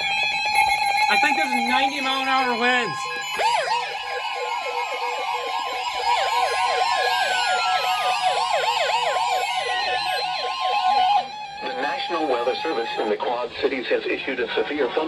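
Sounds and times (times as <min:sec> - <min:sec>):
electronic siren alarm warbling: 0:00.0 - 0:13.2
steady warning tone: 0:00.0 - 0:13.2.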